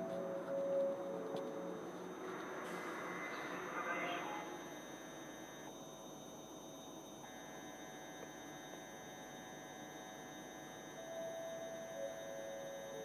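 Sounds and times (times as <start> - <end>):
electrical hum and whine: 0.0 - 13.0.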